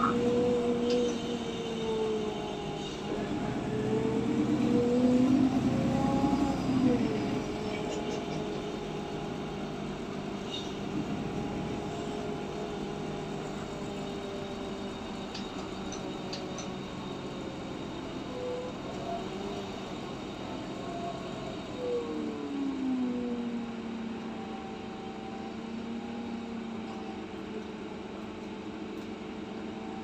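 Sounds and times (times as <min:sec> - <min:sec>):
bus engine humming: 0:00.0 - 0:30.0.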